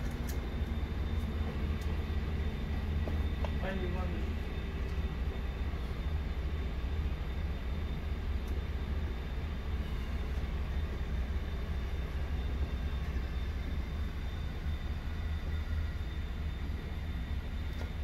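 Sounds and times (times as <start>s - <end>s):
refrigeration machinery hum: 0.0s - 18.0s.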